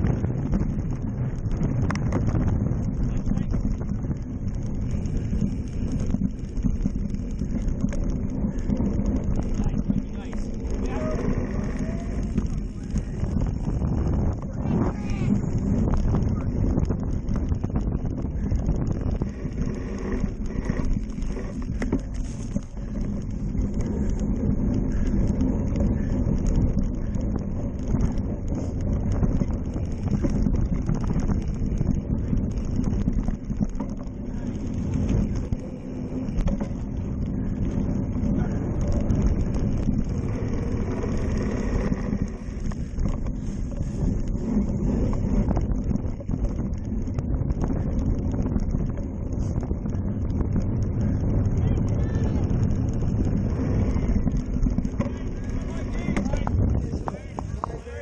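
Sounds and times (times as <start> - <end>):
bike knocks and rattles: 0.0 - 58.0
bike tyres rumbling over dirt: 0.0 - 58.0
wind buffeting microphone: 0.0 - 58.0.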